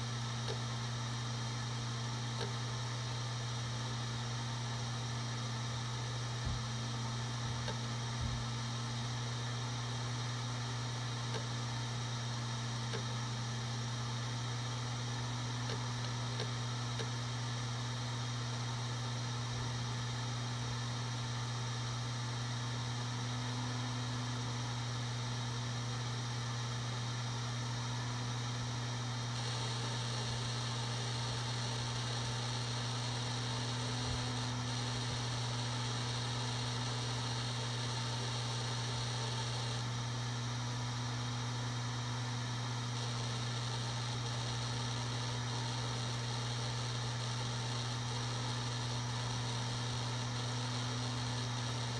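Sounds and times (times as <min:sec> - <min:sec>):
hard drive spinning hum: 0:00.0 - 0:51.9.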